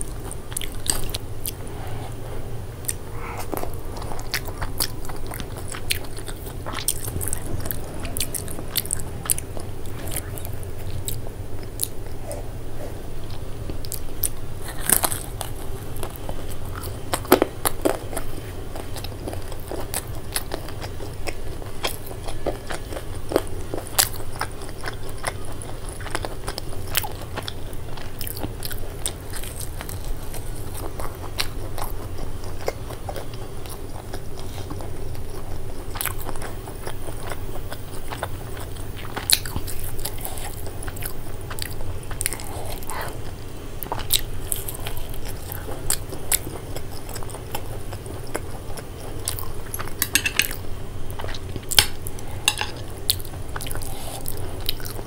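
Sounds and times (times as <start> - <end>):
crunching bites and chewing: 2.8 - 12.4, 13.2 - 55.0.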